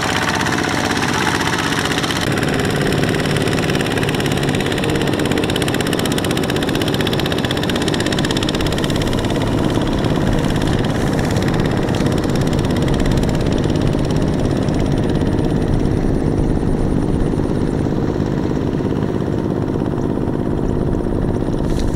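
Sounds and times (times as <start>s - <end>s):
diesel tractor engines running: 0.0s - 21.9s.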